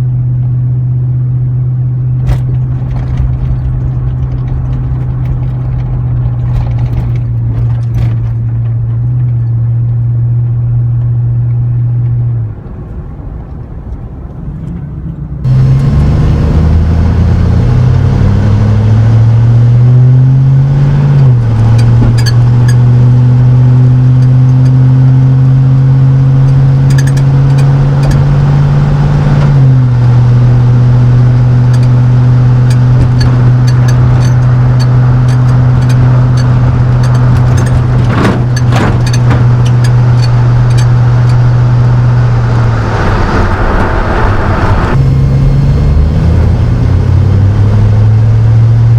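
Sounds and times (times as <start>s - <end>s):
truck engine accelerating through gears: 0.0s - 48.9s.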